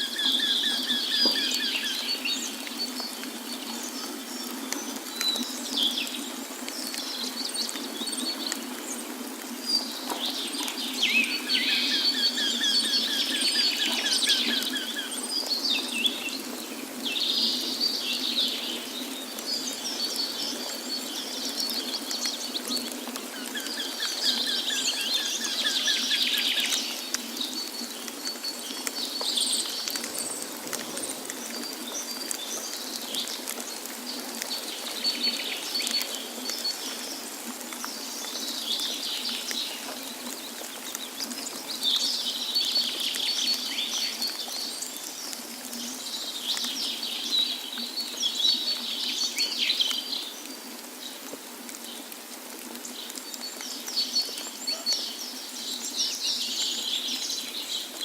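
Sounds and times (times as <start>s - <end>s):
songbirds singing: 0.0s - 52.0s, 52.8s - 58.0s.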